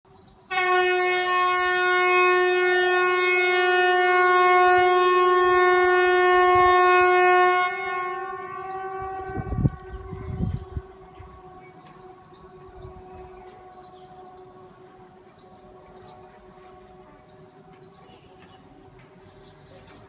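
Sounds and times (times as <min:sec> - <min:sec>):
outdoor warning siren: 0:00.5 - 0:19.2.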